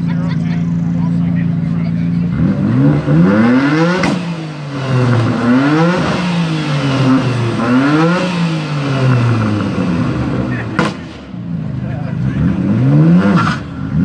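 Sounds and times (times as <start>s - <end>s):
car engine revving: 0.0s - 14.0s
exhaust crack: 0.0s - 14.0s.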